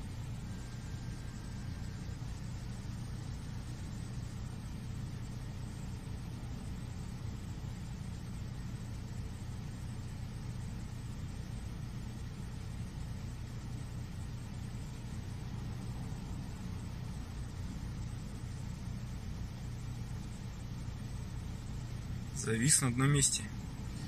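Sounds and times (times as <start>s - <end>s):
engine rumble with hum: 0.0s - 24.0s.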